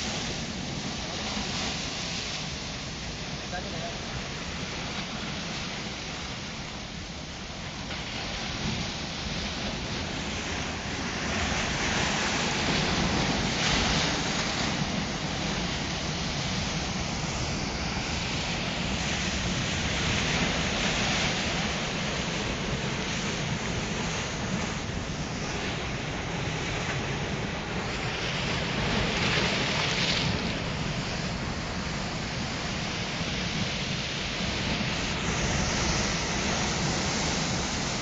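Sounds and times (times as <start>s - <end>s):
ocean waves breaking on beach: 0.0s - 38.0s.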